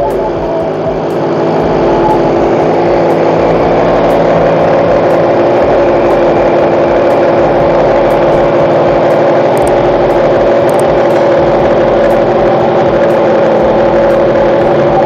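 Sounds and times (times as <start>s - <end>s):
two-stroke generator engine running: 0.0s - 15.0s.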